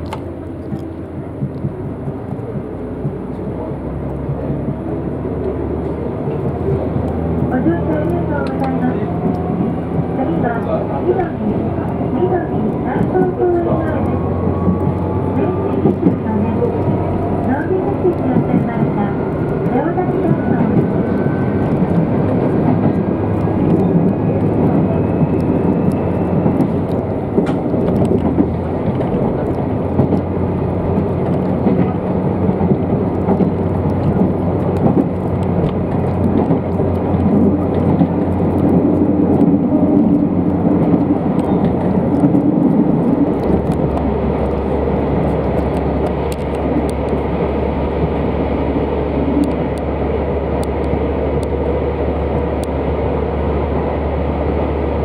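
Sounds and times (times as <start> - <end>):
diesel railcar engine drone: 0.0 - 55.0
wheel and rail noise: 0.0 - 55.0.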